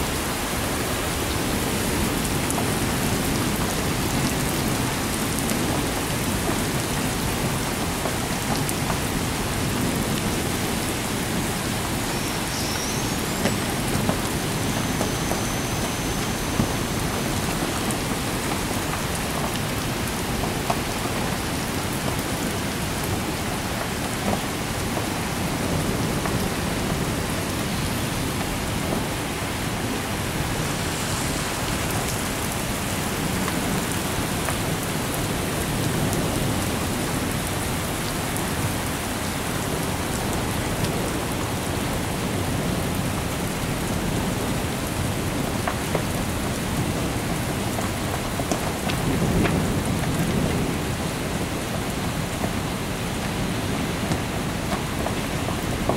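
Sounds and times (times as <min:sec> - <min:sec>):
heavy rain hissing: 0:00.0 - 0:55.9
raindrops tapping surfaces: 0:00.0 - 0:55.9.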